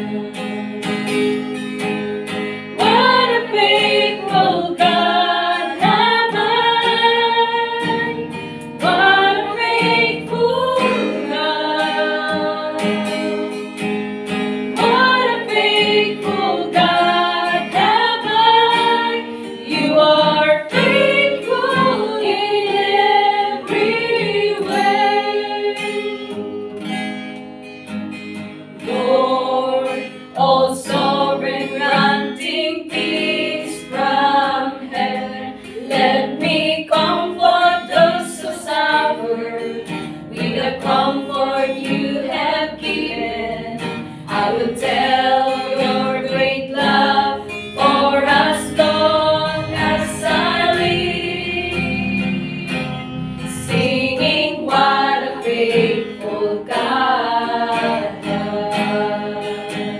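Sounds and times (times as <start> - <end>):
women singing worship song: 0.0 - 0.6, 2.8 - 13.8, 14.7 - 27.0, 28.8 - 52.9, 53.5 - 59.9
acoustic guitar: 0.0 - 59.9.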